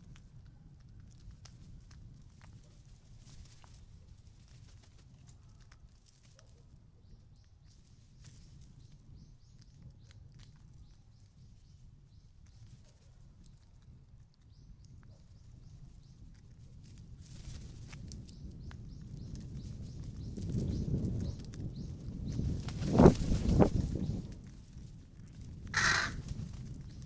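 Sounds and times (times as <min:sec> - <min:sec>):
birds pecking and hopping: 0:00.0 - 0:27.0.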